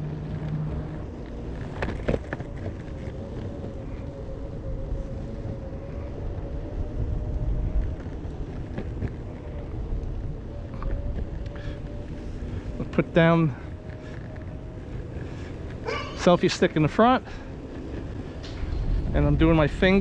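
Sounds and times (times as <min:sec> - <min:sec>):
wheels rumbling on pavement: 0:00.0 - 0:20.0.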